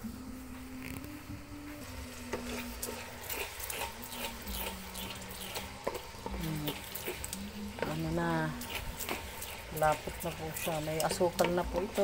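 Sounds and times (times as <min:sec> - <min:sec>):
thick mixture bubbling: 0:01.9 - 0:12.0
spoon scraping a pot: 0:02.2 - 0:12.0.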